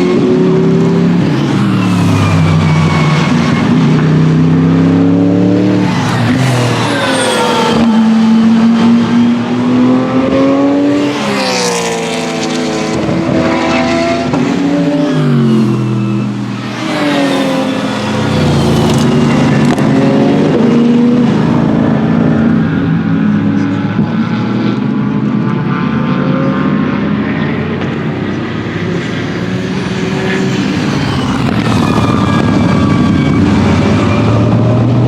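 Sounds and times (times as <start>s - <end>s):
race cars passing: 0.0s - 35.0s.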